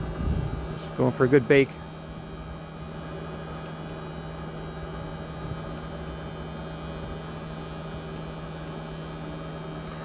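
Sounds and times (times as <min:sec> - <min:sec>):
heat pump compressor hum: 0:00.0 - 0:10.0.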